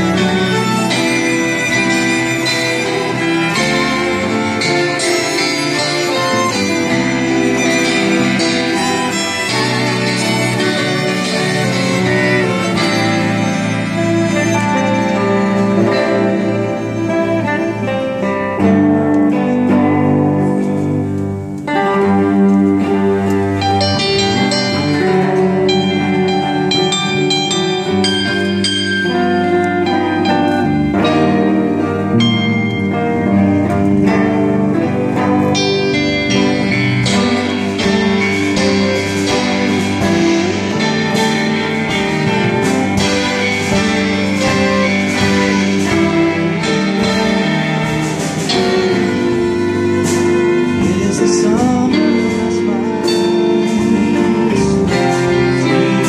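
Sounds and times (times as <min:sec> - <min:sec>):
live band playing: 0:00.0 - 0:56.0.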